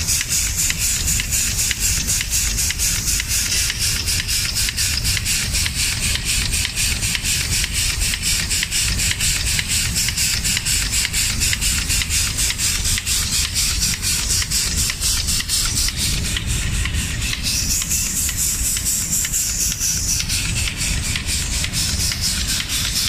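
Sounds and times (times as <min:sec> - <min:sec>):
machine ticking: 0:00.0 - 0:23.0.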